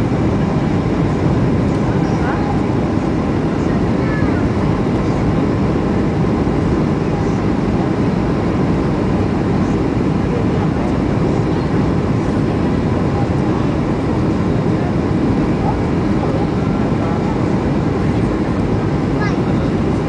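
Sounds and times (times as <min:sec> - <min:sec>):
jet engine roar in cabin: 0:00.0 - 0:20.0.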